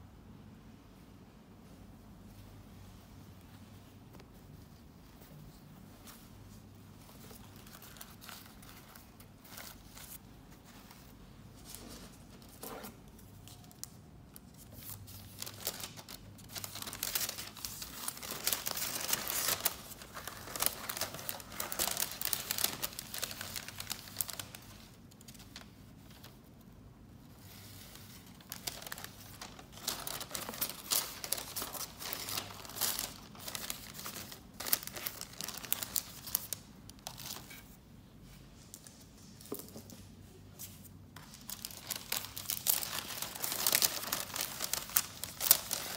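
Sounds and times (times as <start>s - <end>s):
paper rustling and crinkling: 5.1s - 26.5s, 27.3s - 45.9s.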